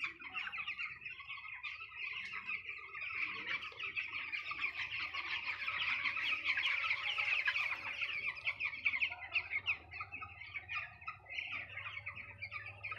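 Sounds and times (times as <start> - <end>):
chickens calling: 0.0 - 12.9.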